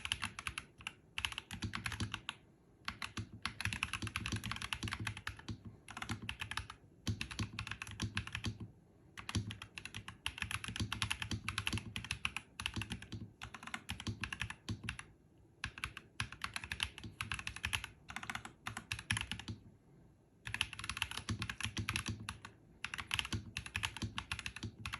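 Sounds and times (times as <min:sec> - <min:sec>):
mechanical keyboard typing: 0:00.0 - 0:19.7, 0:20.4 - 0:24.9.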